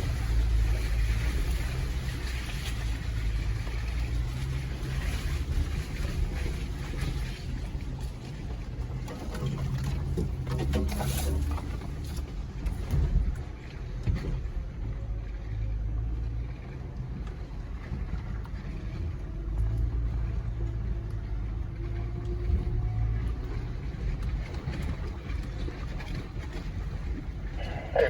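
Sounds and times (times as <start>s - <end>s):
engine low rumble: 0.0s - 28.0s.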